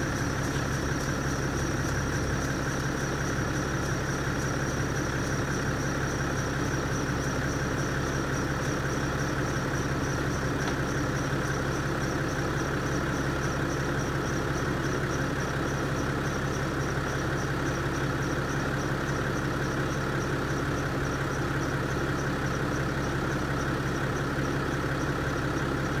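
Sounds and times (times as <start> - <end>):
diesel engine idling: 0.0 - 26.0
high-pitched whine and chirp: 0.0 - 26.0.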